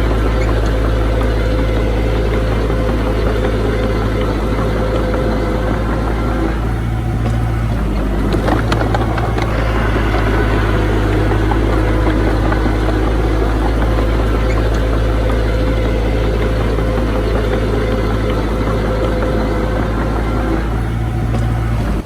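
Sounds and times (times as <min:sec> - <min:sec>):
diesel engine of earthmoving machine: 0:00.0 - 0:22.0.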